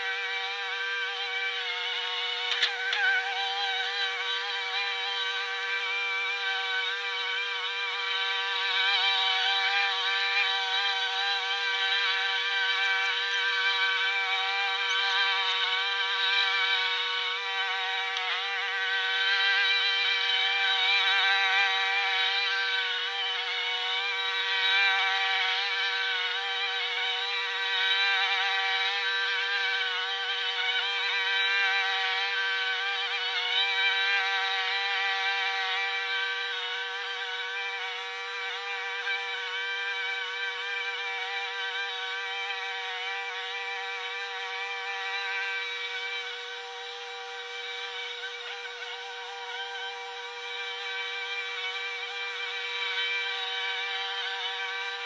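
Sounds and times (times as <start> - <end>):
sped-up lawn mower engine: 0.0 - 55.0.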